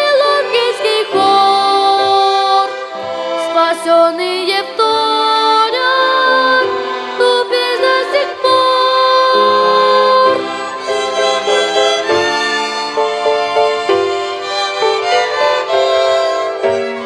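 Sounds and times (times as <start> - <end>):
violin ensemble playing: 0.0 - 17.0.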